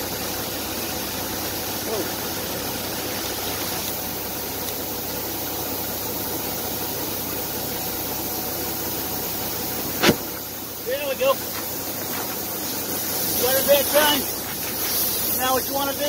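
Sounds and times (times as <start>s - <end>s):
diesel truck engine idling: 0.0s - 16.0s
steady hiss: 0.2s - 16.0s.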